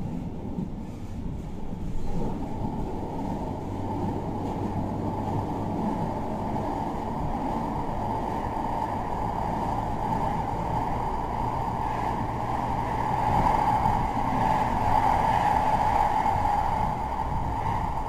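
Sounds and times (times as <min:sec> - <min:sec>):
tram rumbling from inside: 0:00.0 - 0:18.0.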